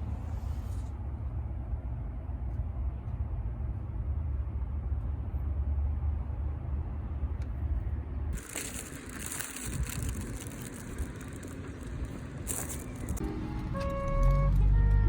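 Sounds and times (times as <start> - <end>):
vehicle rumble inside cabin: 0.0 - 9.2, 9.8 - 15.0.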